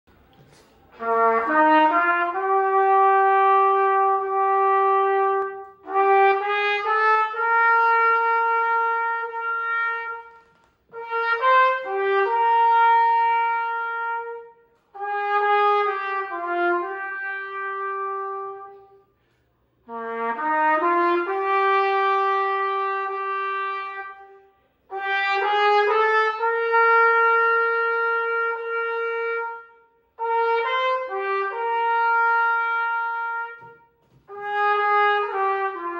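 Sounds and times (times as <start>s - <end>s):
trumpet playing slow hymn: 0.9s - 35.9s.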